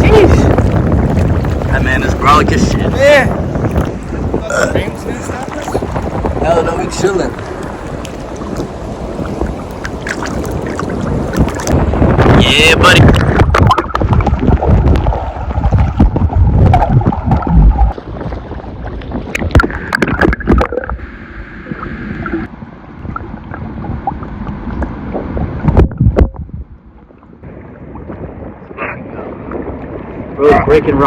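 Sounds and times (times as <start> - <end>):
surf at shore: 0.0 - 31.0
wind rumbling on microphone: 0.0 - 31.0.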